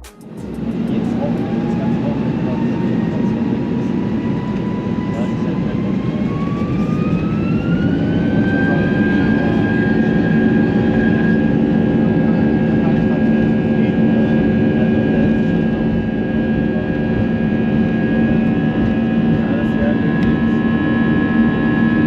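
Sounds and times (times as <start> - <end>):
jet engine roar: 0.0 - 22.0
jet engines whining: 0.0 - 22.0.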